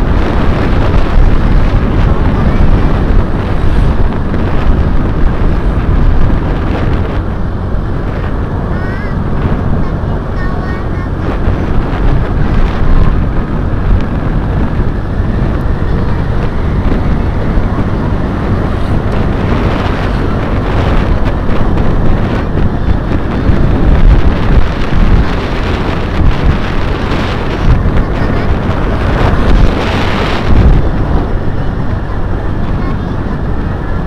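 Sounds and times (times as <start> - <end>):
low rumble of travel noise: 0.0 - 34.0
wind buffeting microphone: 0.0 - 34.0.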